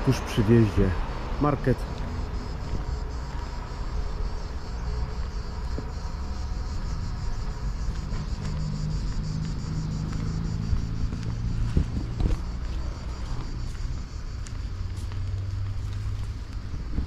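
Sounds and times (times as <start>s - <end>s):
outdoor low rumble: 1.0s - 17.0s.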